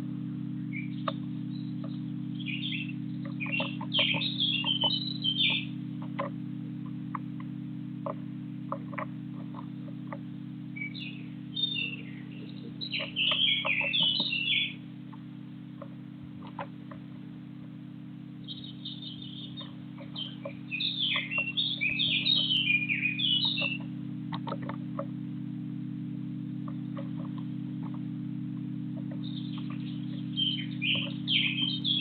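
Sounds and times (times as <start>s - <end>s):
songbird chirping: 0.0s - 32.0s
steady low hum: 0.0s - 32.0s
faint ticks: 0.8s - 17.4s, 18.4s - 25.5s, 26.4s - 32.0s.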